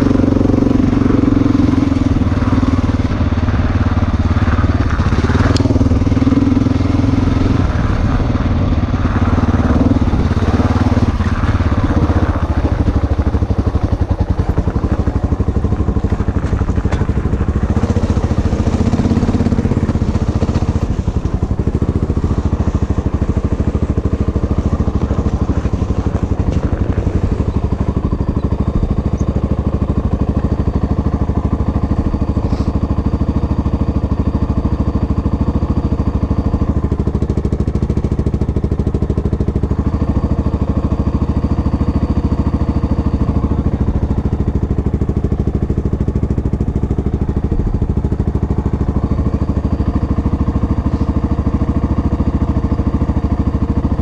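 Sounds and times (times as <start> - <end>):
vehicle engine running steadily: 0.0 - 54.0.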